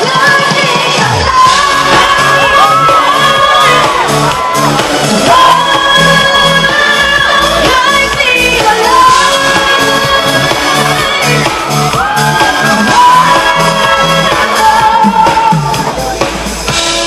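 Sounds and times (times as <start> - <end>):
woman singing: 0.0 - 16.0
band playing pop music: 0.0 - 17.0.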